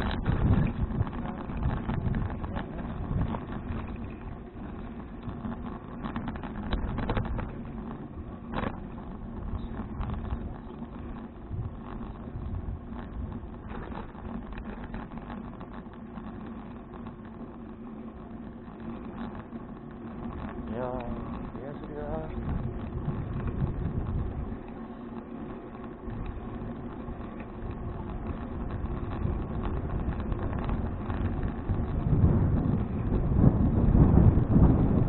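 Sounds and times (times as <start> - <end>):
bicycle clicks and rattles: 0.0 - 35.0
wind and road rumble: 0.0 - 35.0.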